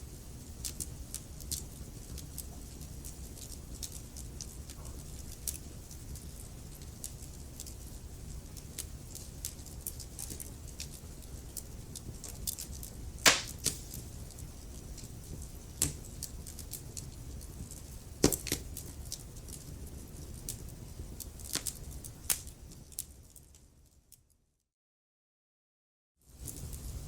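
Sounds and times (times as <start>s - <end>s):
low rumble of flames: 0.0s - 24.0s, 26.4s - 27.0s
fire crackling and popping: 0.1s - 24.0s, 26.4s - 27.0s.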